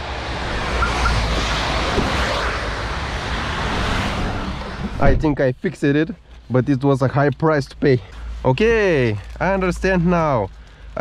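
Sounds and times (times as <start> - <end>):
traffic on a wet road: 0.0 - 11.0.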